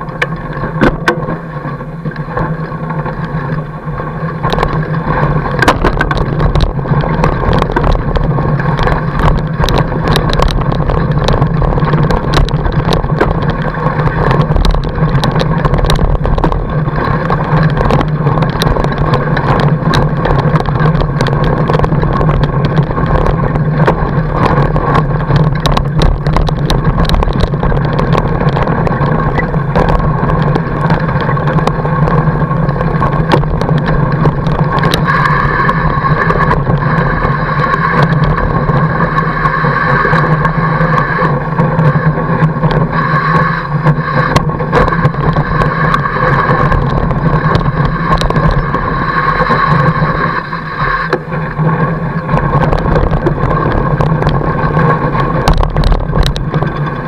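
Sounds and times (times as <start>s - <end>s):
clicks and rattles: 0.0s - 57.0s
tyre rolling over packed snow: 0.0s - 57.0s.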